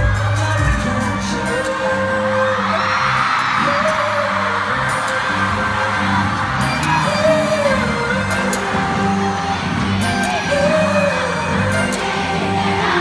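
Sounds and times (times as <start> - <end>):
man singing into microphone: 0.0 - 13.0
pop backing track: 0.0 - 13.0
audience screaming: 0.3 - 13.0.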